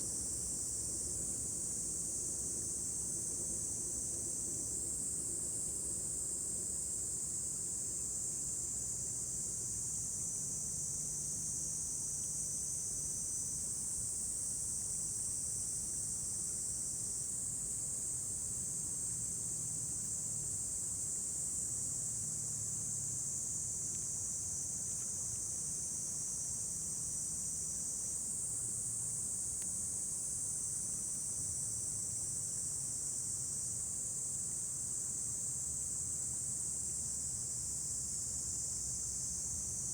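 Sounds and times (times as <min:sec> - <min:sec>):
chorus of summer insects: 0:00.0 - 0:39.9.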